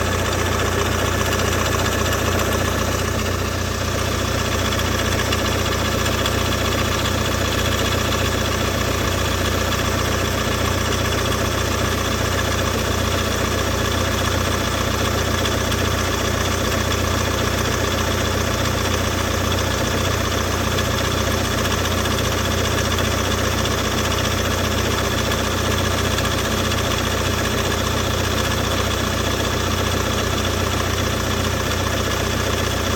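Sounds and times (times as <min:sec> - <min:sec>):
diesel engine idling: 0:00.0 - 0:32.9
rapid engine knock: 0:00.0 - 0:32.9.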